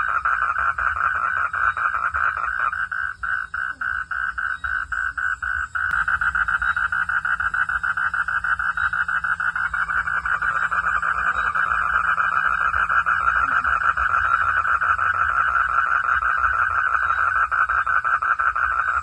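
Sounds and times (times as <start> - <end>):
frog calling in rapid pulses: 0.0 - 19.0.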